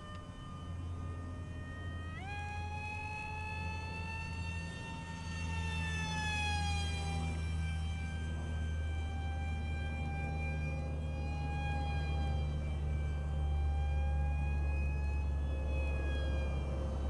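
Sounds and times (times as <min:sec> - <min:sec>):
model plane motor whining: 0:00.0 - 0:17.0
steady low hum: 0:00.0 - 0:17.0.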